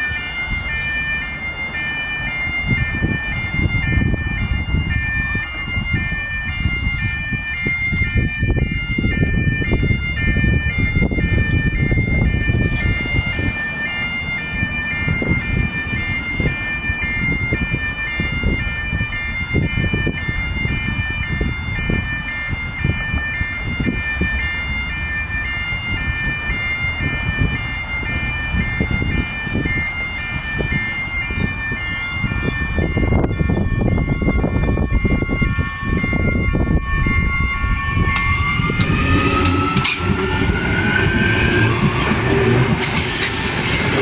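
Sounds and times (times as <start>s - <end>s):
two-tone crossing alarm: 0.0s - 44.0s.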